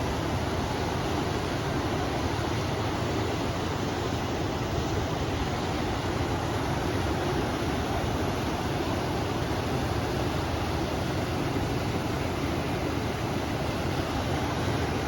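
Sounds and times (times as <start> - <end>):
river water rushing: 0.0 - 15.0
wind: 0.0 - 15.0.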